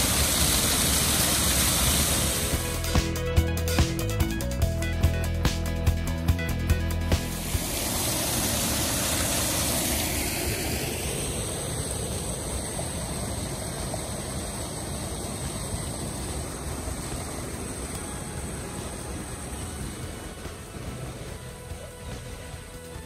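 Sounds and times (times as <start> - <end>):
waterfall rushing: 0.0 - 3.8, 7.2 - 23.0.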